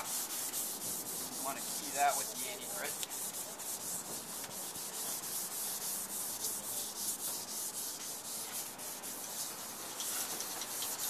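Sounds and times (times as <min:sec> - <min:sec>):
sandpaper rubbing on metal: 0:00.0 - 0:11.0.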